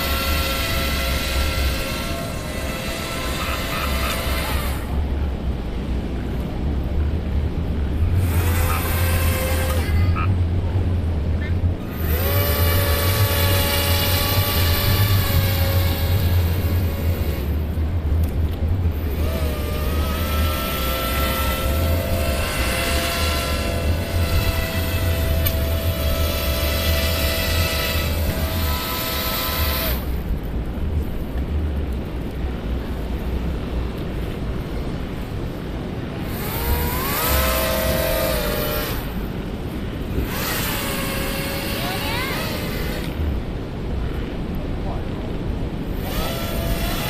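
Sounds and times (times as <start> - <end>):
electric motors and propellers whining: 0.0 - 47.0
low rumble: 0.0 - 47.0.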